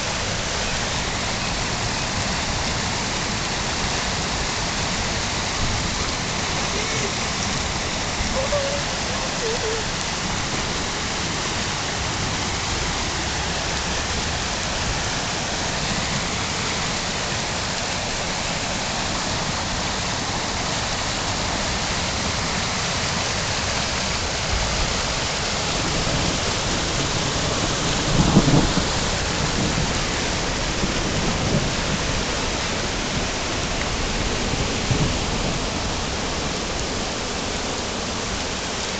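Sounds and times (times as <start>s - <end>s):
heavy rain on flooded street: 0.0s - 38.9s.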